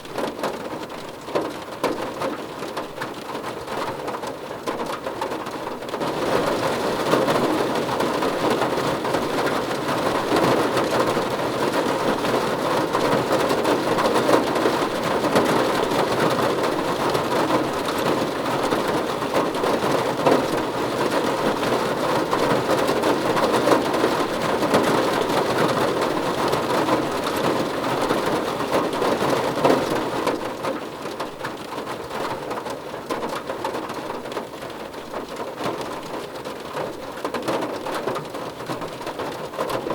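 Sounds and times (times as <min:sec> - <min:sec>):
heavy rain drumming on car roof: 0:00.0 - 0:39.9.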